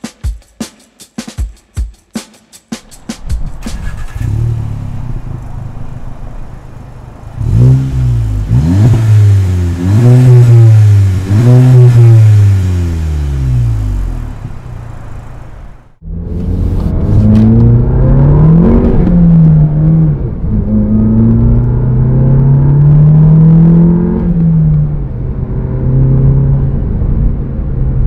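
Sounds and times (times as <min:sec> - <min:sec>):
car engine idling and revving: 0:02.8 - 0:28.0.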